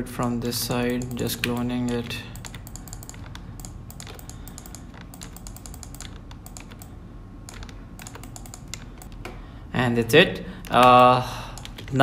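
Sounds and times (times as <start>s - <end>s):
faint steady hum: 0.0s - 12.0s
mouse and keyboard clicking: 0.8s - 9.4s, 10.6s - 12.0s.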